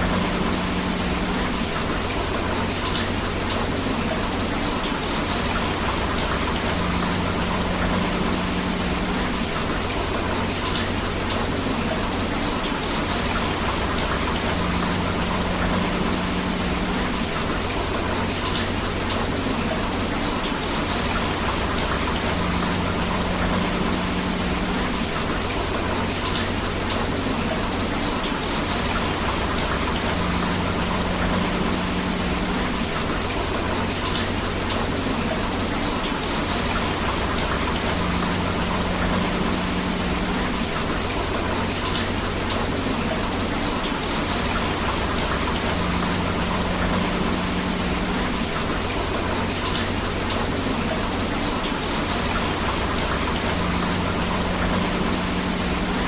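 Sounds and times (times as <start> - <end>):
rushing river water: 0.0 - 56.0
steady rain: 0.0 - 56.0.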